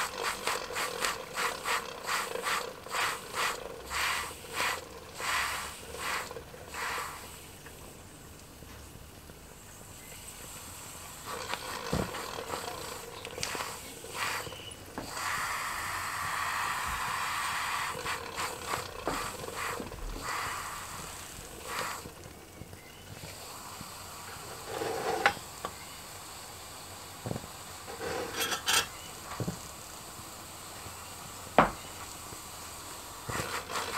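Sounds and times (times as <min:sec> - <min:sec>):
steam hissing: 0:00.0 - 0:08.1, 0:09.4 - 0:33.9.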